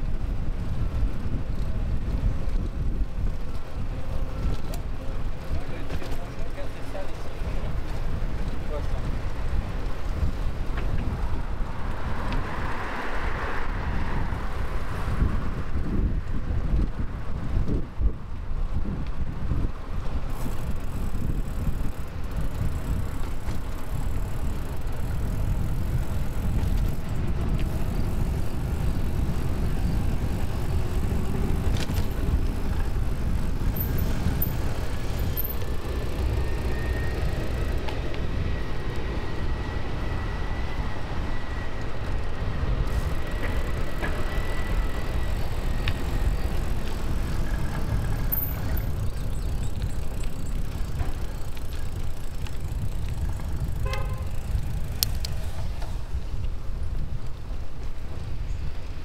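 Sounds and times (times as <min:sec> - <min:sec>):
bicycle rolling on pavement: 0:00.0 - 0:59.0
wind rumble on microphone: 0:00.0 - 0:59.0.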